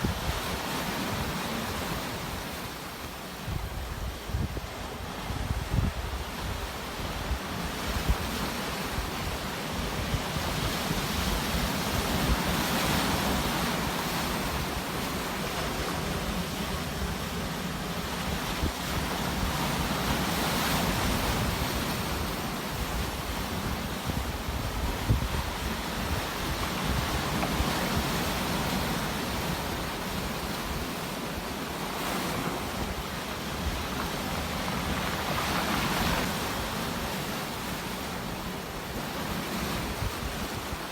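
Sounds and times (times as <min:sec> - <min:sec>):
sea waves surging: 0:00.0 - 0:40.9.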